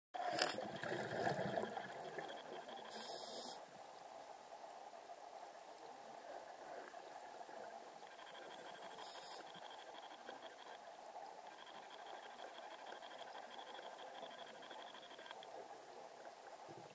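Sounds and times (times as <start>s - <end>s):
muffled underwater noise: 0.2s - 4.5s, 6.0s - 16.9s.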